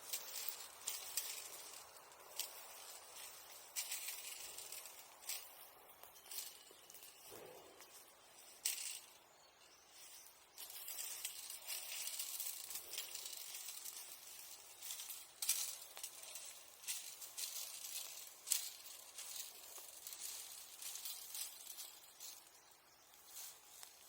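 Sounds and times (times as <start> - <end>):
fire crackles: 0.0 - 24.0.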